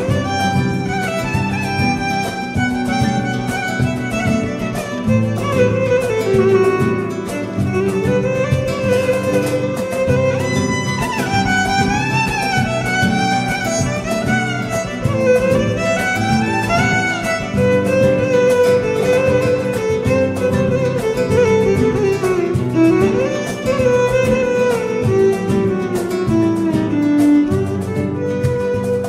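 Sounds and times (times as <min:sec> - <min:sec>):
quick steady beat: 0:00.0 - 0:29.0
violin melody with strings: 0:00.0 - 0:29.0.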